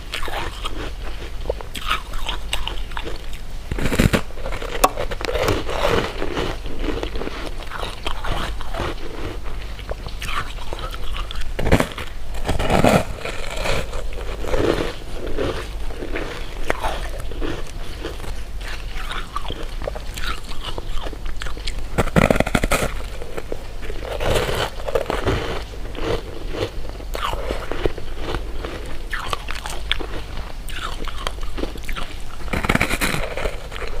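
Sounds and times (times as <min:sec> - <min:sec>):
crunchy chewing of sweets: 0:00.0 - 0:34.0.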